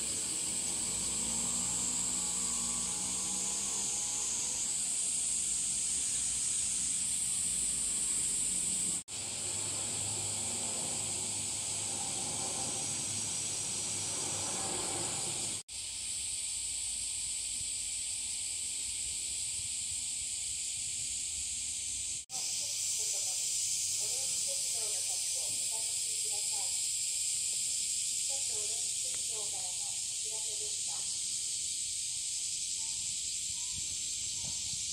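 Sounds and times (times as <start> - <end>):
cicadas droning: 0.0 - 34.9.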